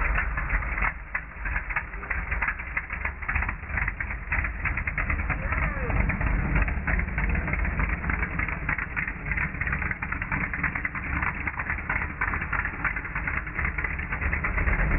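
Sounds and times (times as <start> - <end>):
pickup truck engine rumbling: 0.0 - 14.9.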